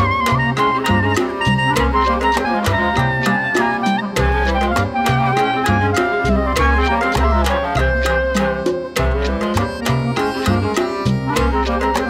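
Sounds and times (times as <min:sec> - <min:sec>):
jazz ensemble music: 0:00.0 - 0:12.0.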